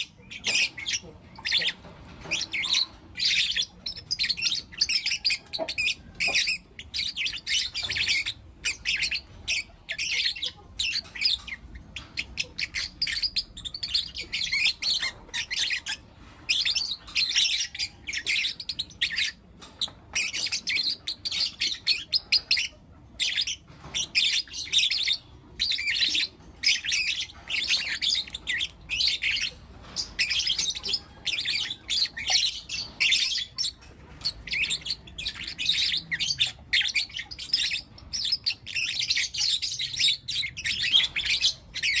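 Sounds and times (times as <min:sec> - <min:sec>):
bird chicks chirping: 0:00.0 - 0:42.0.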